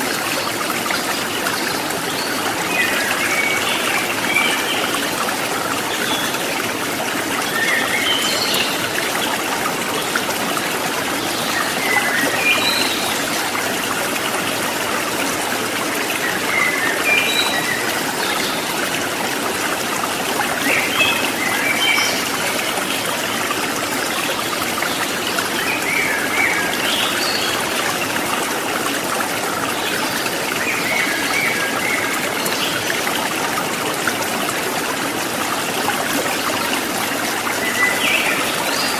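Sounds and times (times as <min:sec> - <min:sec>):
stream water babbling over rocks: 0:00.0 - 0:38.9.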